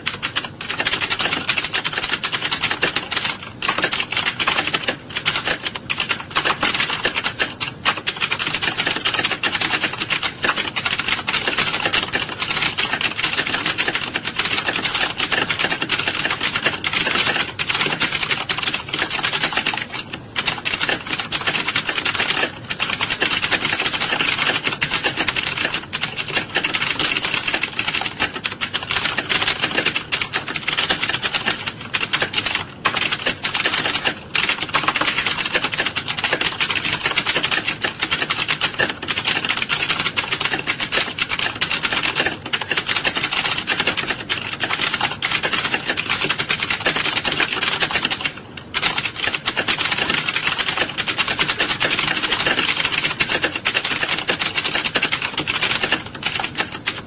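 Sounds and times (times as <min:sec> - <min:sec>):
many people typing on keyboards: 0:00.0 - 0:57.0.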